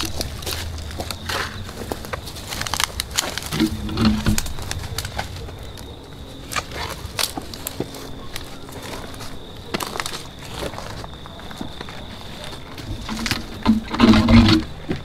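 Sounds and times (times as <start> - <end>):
footsteps through dry undergrowth: 0.0 - 15.0
twigs snapping: 0.0 - 15.0.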